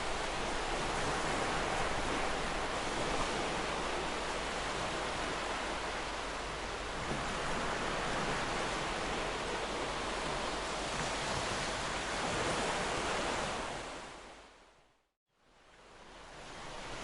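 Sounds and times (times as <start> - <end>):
ocean waves breaking on beach: 0.0 - 14.8, 15.5 - 17.0.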